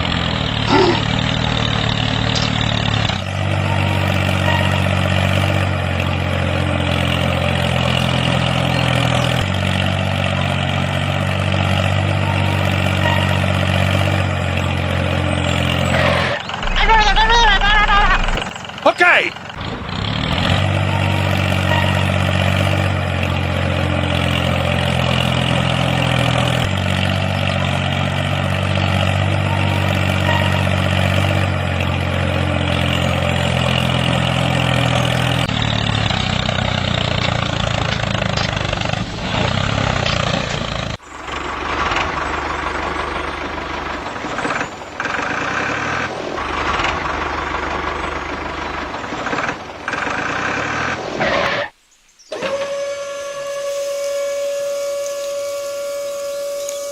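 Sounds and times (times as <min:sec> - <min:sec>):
vehicle engine running: 0:00.0 - 0:51.2.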